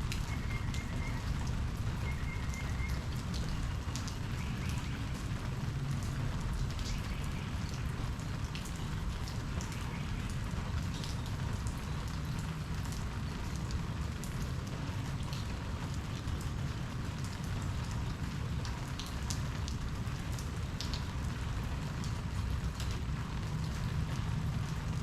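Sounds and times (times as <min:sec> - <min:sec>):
constant low rumble: 0:00.0 - 0:25.0
raindrops ticking: 0:00.0 - 0:25.0
steady rain: 0:00.0 - 0:25.0.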